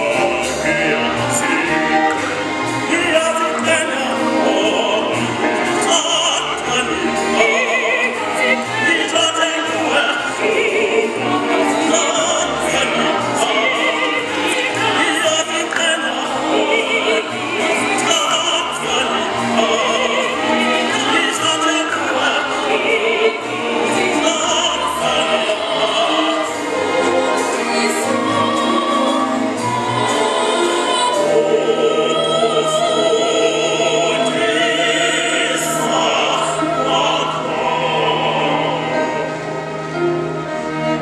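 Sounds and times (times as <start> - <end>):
children's choir singing: 0.0 - 41.0
string orchestra: 0.0 - 41.0.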